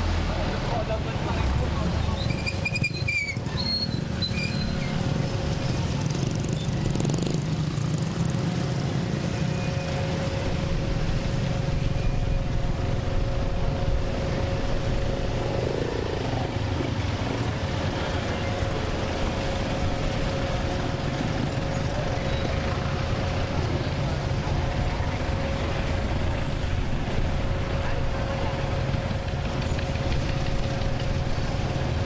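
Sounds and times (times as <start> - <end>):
engine rumble and machinery hum: 0.0 - 32.0.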